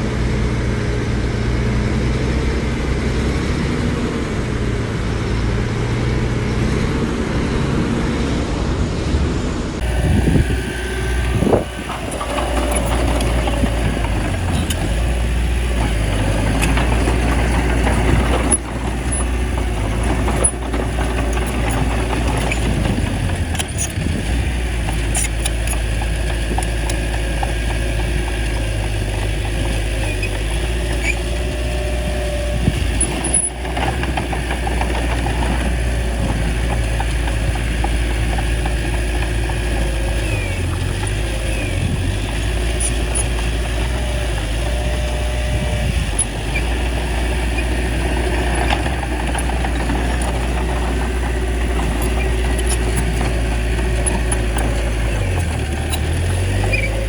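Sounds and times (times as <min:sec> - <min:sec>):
bulldozer diesel engine rumbling: 0:00.0 - 0:57.0.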